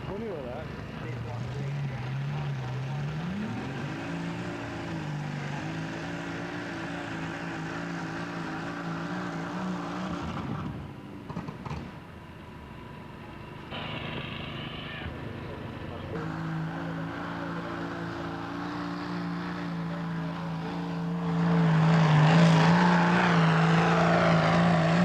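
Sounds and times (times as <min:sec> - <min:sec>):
tractor engine running hard: 0:00.0 - 0:25.0.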